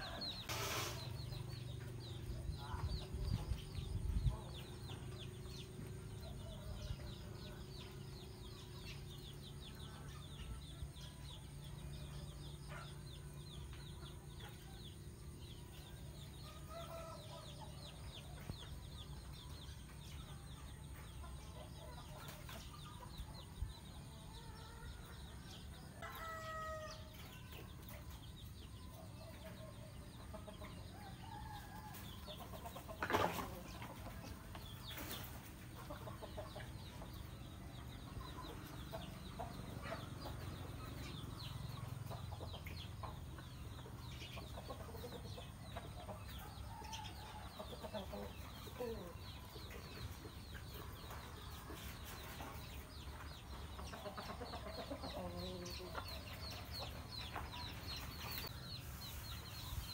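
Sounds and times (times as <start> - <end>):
chickens clucking and calling: 0.0 - 59.9.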